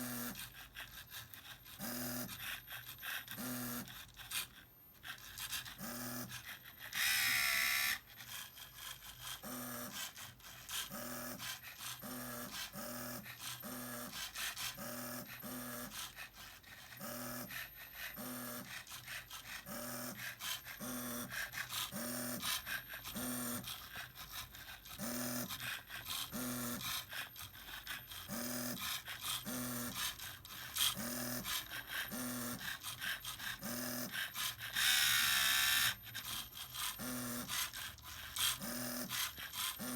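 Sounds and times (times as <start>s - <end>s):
small electric motors whirring: 0.0s - 39.9s.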